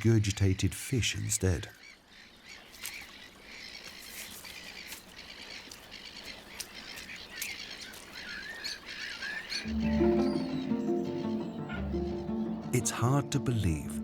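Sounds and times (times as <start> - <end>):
gulls calling: 2.3 - 14.0.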